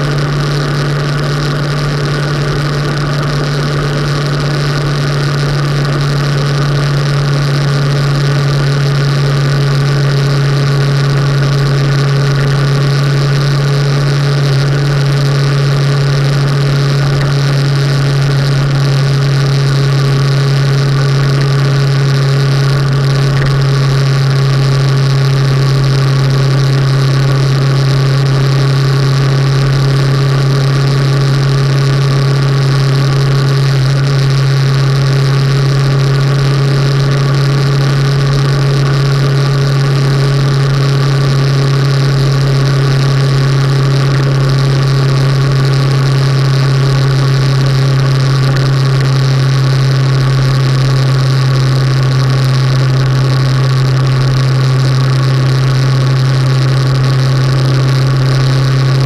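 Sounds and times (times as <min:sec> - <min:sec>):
motorcycle engine drone: 0:00.0 - 0:59.0
wind and road noise: 0:00.0 - 0:59.0.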